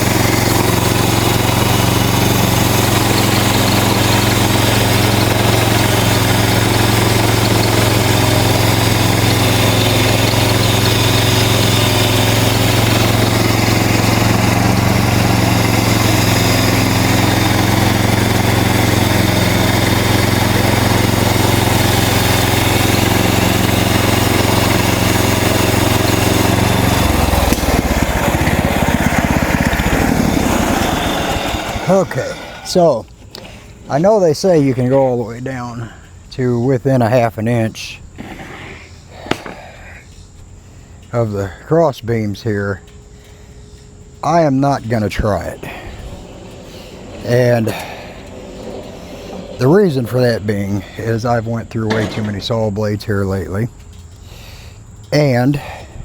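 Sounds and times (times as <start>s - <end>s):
band saw cutting log: 0.0s - 36.0s, 38.2s - 39.8s, 43.3s - 56.0s
gasoline engine running: 0.0s - 56.0s.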